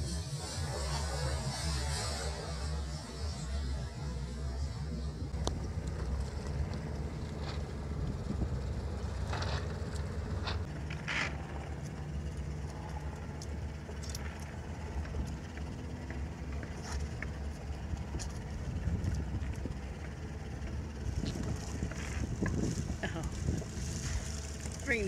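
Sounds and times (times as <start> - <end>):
low rumble on open water: 0.3 - 25.0.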